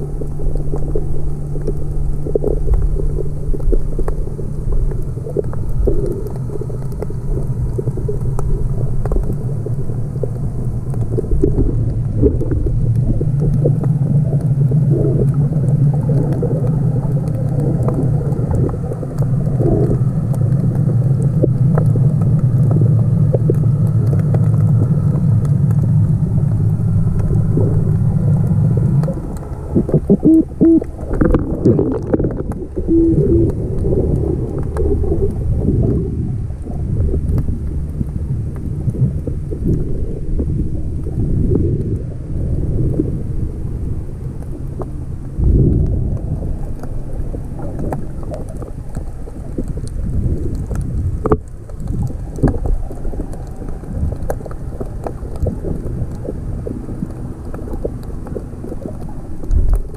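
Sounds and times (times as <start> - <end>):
underwater clicks and knocks: 0.0 - 41.9, 44.4 - 59.9
steady hum: 0.0 - 59.9
underwater rumble: 0.0 - 59.9.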